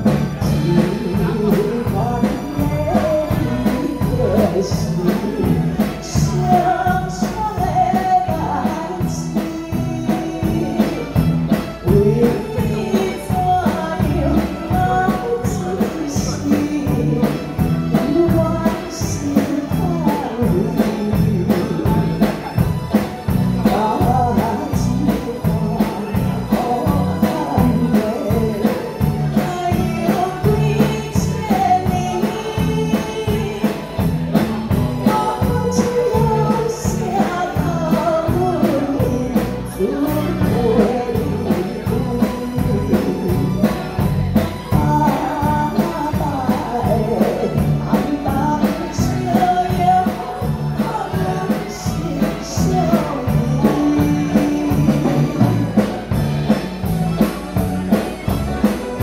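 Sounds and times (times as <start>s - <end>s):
woman singing into a microphone: 0.0s - 22.7s, 23.3s - 56.3s
band accompaniment with steady beat: 0.0s - 59.0s.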